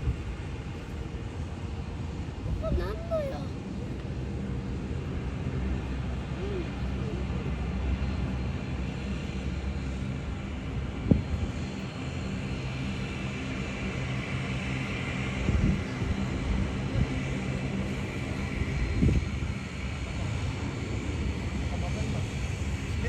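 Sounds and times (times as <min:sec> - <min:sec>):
high engine whine: 0:00.0 - 0:23.0
jet engines rumbling: 0:00.0 - 0:23.0.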